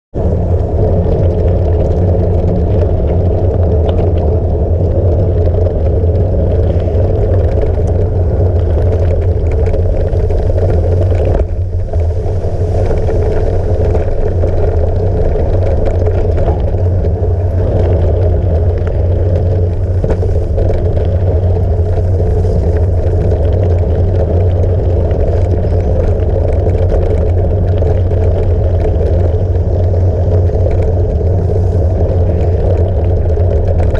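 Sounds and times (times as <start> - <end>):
bike tyres rolling on dirt trail: 0.1 - 33.9.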